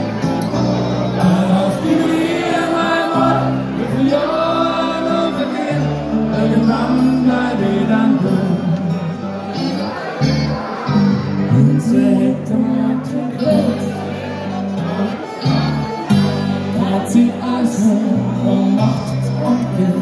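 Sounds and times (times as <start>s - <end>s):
live party band with singing: 0.0s - 20.0s.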